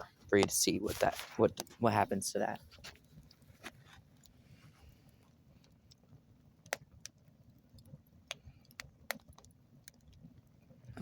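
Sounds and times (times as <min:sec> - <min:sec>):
campfire crackling and popping: 0:00.0 - 0:11.0
low fire rumble: 0:00.0 - 0:11.0.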